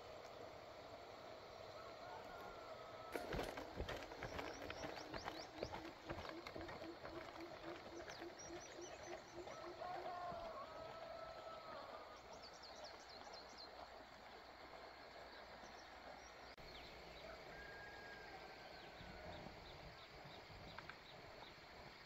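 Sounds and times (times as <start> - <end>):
faint outdoor background noise: 0.0 - 22.0.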